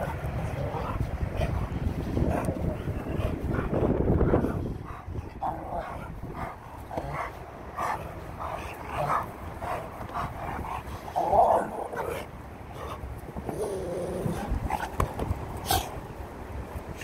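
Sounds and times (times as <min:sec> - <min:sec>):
dogs play vocalizing: 0:00.0 - 0:16.1.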